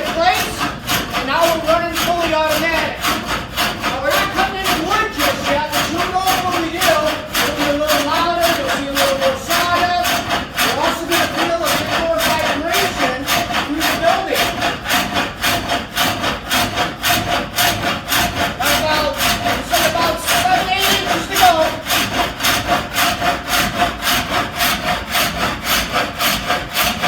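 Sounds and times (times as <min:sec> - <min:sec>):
trip hammer beating rapidly: 0:00.0 - 0:27.0.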